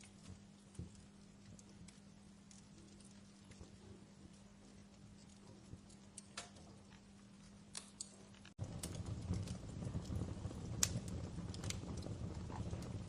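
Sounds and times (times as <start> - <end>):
fireplace crackling and popping: 0.0 - 13.0.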